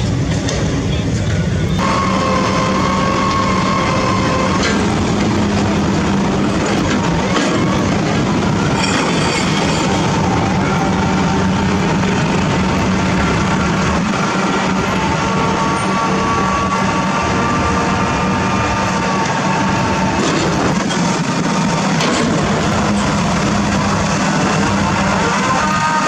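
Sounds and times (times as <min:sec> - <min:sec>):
diesel machinery engine running: 0:00.0 - 0:26.0
thin steady whine: 0:00.0 - 0:26.0.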